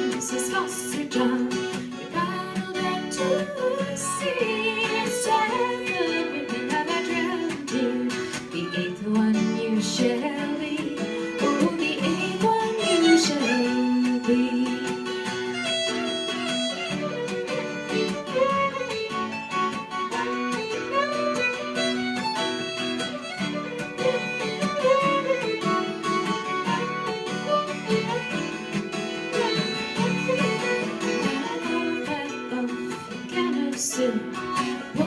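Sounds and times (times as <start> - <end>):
acoustic guitar: 0.0 - 35.0
fiddle melody: 0.0 - 35.0.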